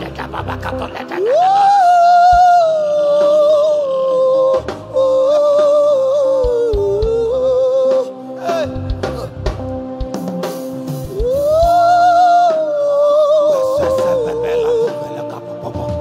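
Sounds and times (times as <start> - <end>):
man singing wordless line: 0.0 - 9.7, 11.1 - 16.0.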